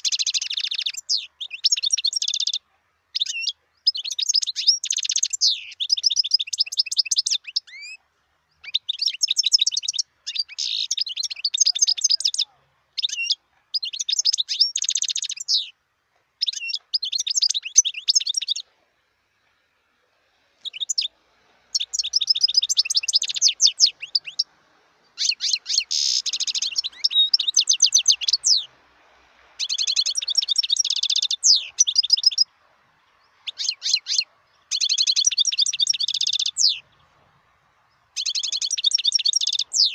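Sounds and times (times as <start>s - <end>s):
goldfinch twittering song: 0.0s - 8.0s, 8.6s - 15.8s, 16.4s - 18.7s, 20.6s - 21.1s, 21.7s - 28.7s, 29.6s - 32.6s, 33.2s - 37.1s, 37.9s - 39.9s.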